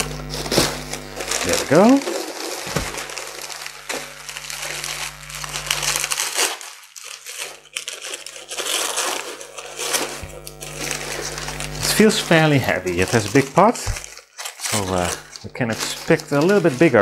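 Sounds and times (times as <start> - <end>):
wrapping paper crumpling and rustling: 0.0 - 17.0.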